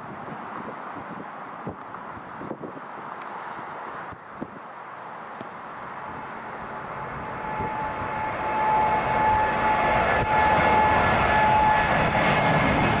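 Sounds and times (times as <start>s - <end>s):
high fan whine: 0.0s - 13.0s
jet engines roaring overhead: 0.0s - 13.0s.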